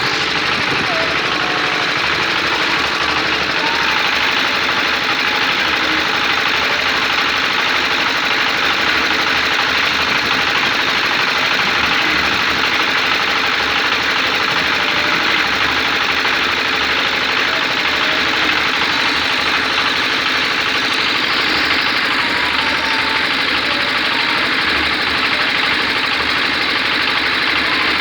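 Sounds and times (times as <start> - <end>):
electric motors whirring buzz: 0.0 - 28.0.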